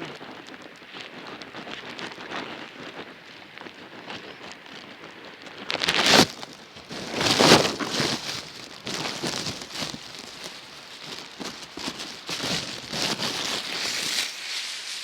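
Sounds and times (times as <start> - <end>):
rain patter: 0.0 - 14.6.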